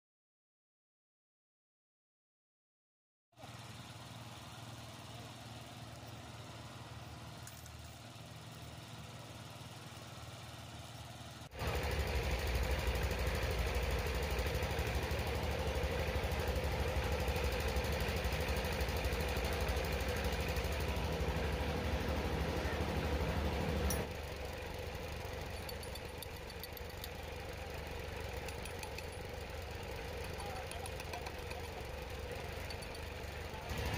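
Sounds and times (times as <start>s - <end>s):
engine idling: 3.4s - 33.9s.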